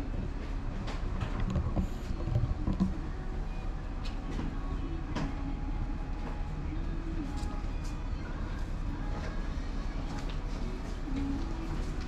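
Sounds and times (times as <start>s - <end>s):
low machine rumble with wavering hum: 0.0s - 12.0s.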